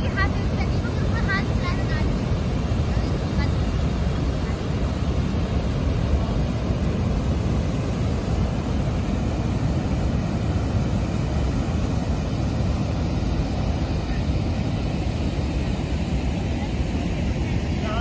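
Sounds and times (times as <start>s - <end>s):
water rushing over a weir: 0.0s - 18.0s.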